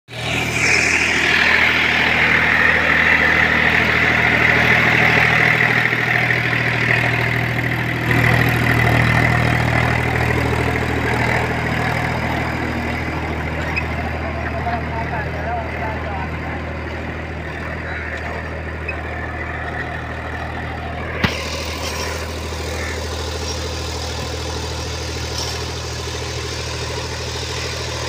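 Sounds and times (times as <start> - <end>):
tractor diesel engine running: 0.0 - 28.0
rotavator churning soil: 0.1 - 28.0.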